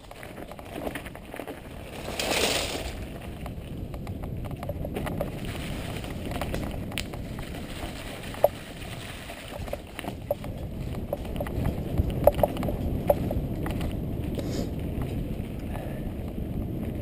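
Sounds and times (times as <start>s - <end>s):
bike clicks and rattles: 0.0s - 17.0s
bike tyres rumbling on dirt: 0.0s - 17.0s
wind on microphone: 0.0s - 17.0s.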